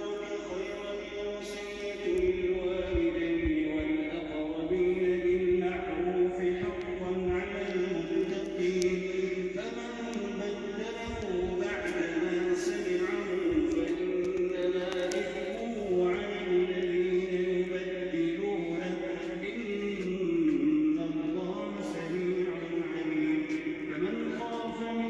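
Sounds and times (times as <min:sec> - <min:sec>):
voice chanting: 0:00.0 - 0:25.0.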